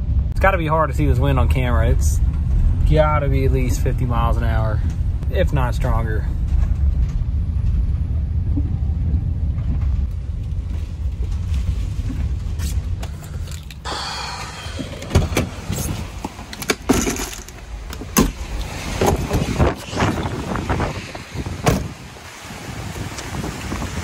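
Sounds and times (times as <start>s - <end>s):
road noise inside vehicle: 0.0s - 24.0s
wind buffeting vehicle: 0.0s - 24.0s.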